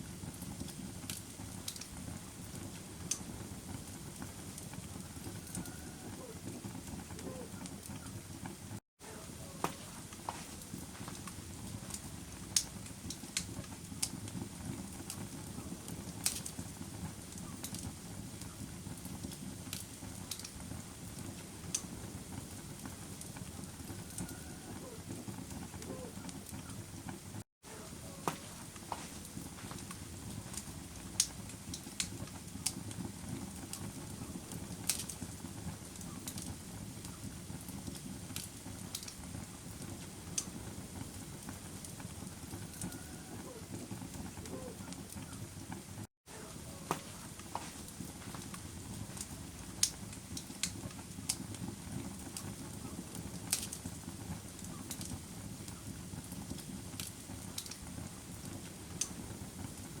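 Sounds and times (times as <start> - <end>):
campfire crackling: 0.0 - 60.0
fire popping: 0.0 - 60.0.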